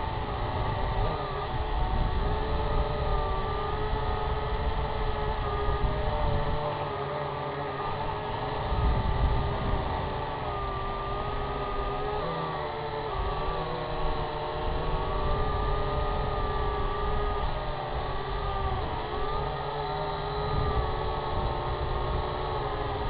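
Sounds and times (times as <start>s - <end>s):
drone propellers whining: 0.0s - 23.0s
wind rumble on microphone: 0.0s - 23.0s.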